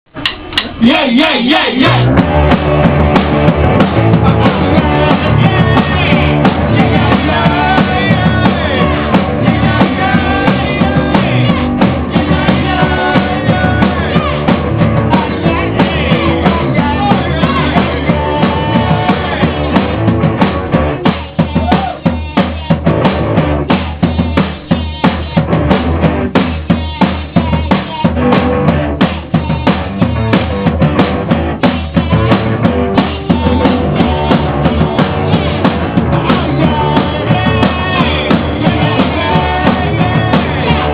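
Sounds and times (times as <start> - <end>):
drum hits: 0.1 - 40.9
rock band playing: 0.1 - 40.9.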